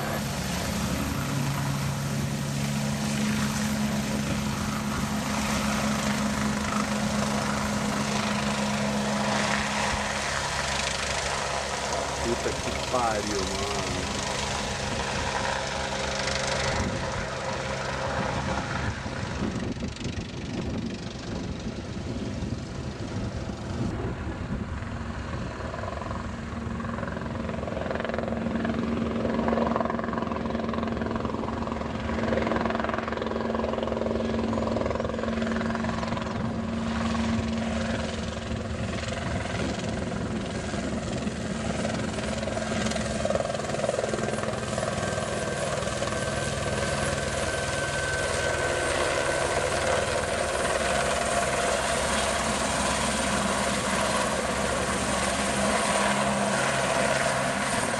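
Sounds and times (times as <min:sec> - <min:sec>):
helicopter rotor and engine: 0:00.0 - 0:57.9.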